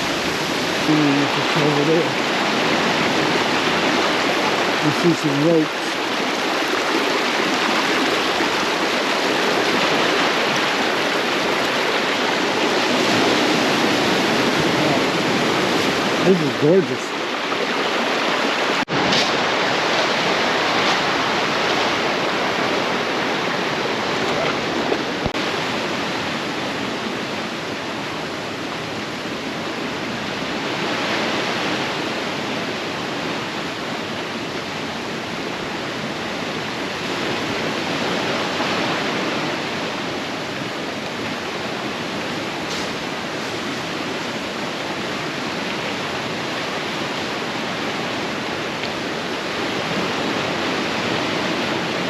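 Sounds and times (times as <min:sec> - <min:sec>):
water rushing in rocky brook: 0:00.0 - 0:52.0.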